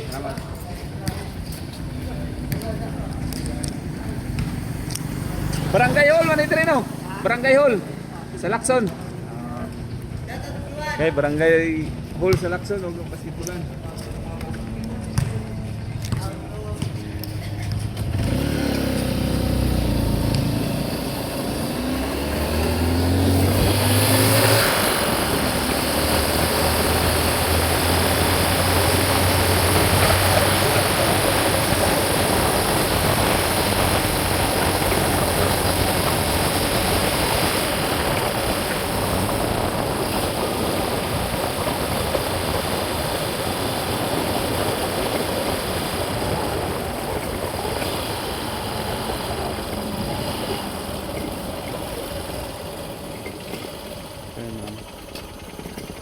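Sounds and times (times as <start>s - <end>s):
road and wind noise: 0.0s - 56.0s
vehicle engine accelerating: 1.4s - 10.3s, 17.2s - 56.0s.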